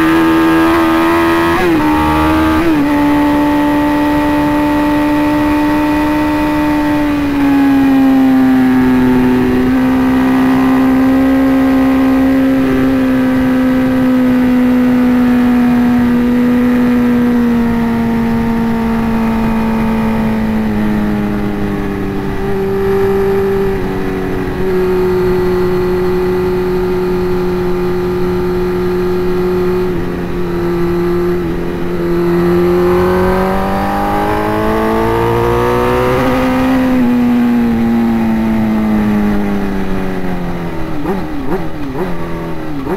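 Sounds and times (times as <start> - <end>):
motorcycle engine at high revs: 0.0 - 42.9.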